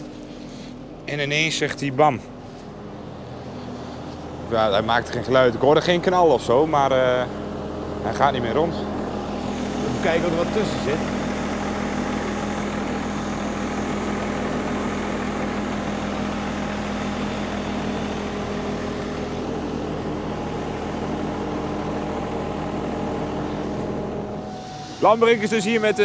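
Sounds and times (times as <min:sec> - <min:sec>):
engine idling low drone: 0:00.0 - 0:26.0.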